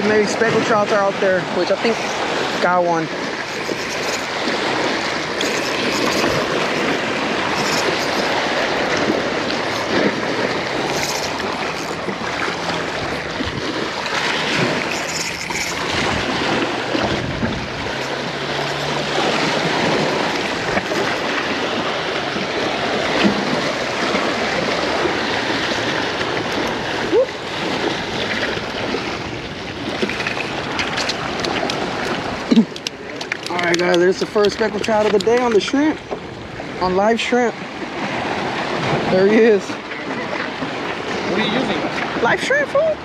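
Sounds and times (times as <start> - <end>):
waves washing against rocks: 0.0 - 43.0.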